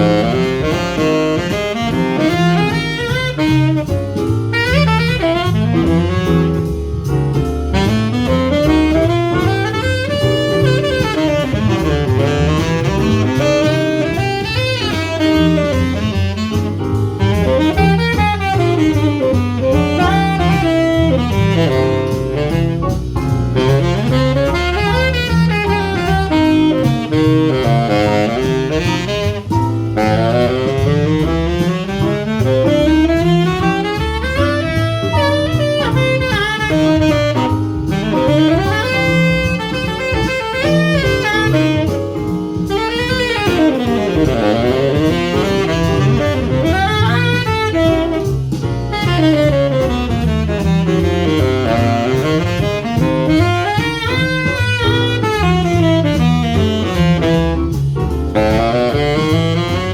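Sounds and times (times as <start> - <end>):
saxophone fast runs: 0.0 - 7.0, 7.7 - 59.9
bass line: 0.0 - 59.9.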